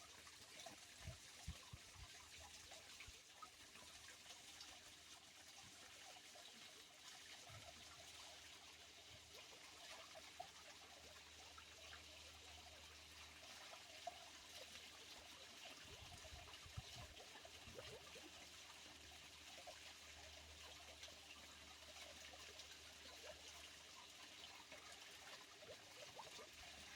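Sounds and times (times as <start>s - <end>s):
water babbling over stones: 0.0s - 26.9s.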